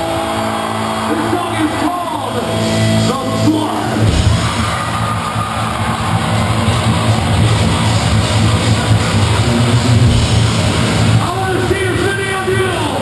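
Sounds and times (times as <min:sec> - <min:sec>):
electric guitars: 0:00.0 - 0:12.1
live metal band playing: 0:00.0 - 0:13.0.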